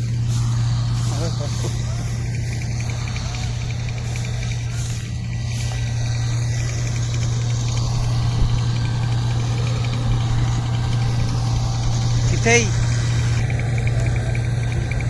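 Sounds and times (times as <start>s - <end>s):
farm machinery engine humming: 0.0s - 15.0s.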